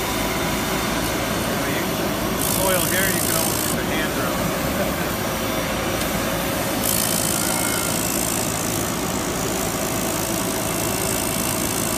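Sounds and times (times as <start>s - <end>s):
drill rig engine running: 0.0s - 11.9s.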